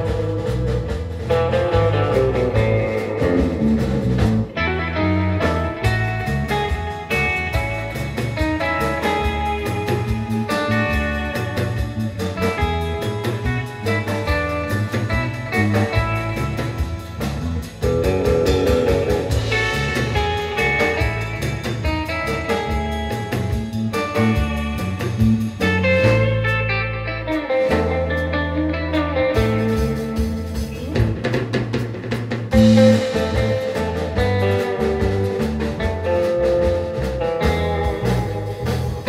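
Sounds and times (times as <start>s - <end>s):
bass: 0.0s - 39.0s
drum kit: 0.0s - 39.0s
electric lead guitar: 0.0s - 39.0s.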